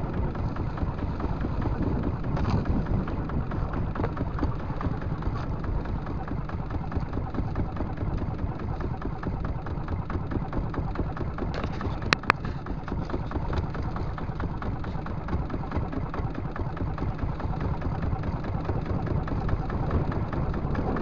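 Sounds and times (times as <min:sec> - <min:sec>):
diesel boat engine running: 0:00.0 - 0:21.0.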